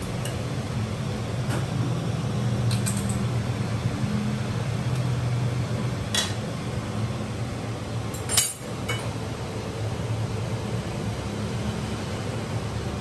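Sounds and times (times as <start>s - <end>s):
appliance fan hum: 0.0s - 13.0s.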